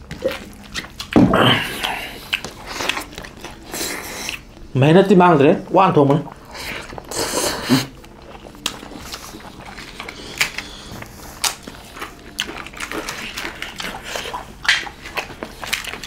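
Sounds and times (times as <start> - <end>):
people chewing noisily: 0.0 - 16.0.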